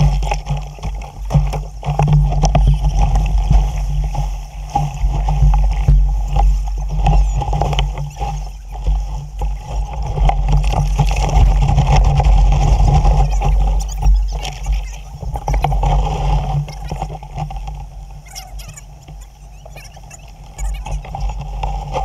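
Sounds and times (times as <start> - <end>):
water slapping against hull: 0.0 - 22.0
wind buffeting microphone: 0.0 - 22.0.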